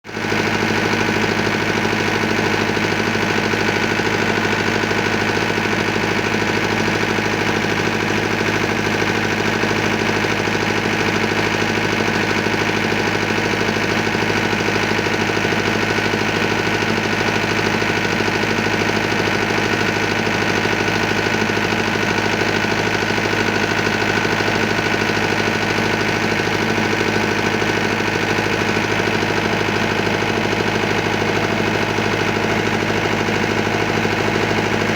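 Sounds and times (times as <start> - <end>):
diesel generator engine running: 0.0 - 34.9.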